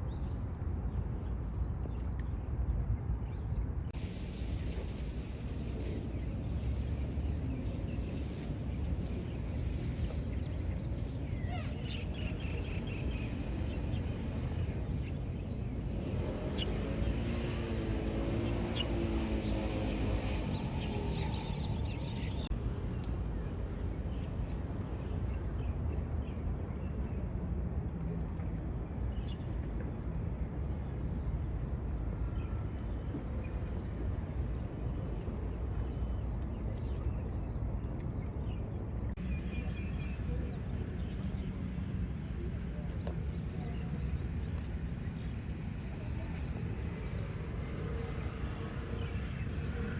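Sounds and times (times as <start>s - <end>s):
steady low rumble: 0.0s - 49.9s.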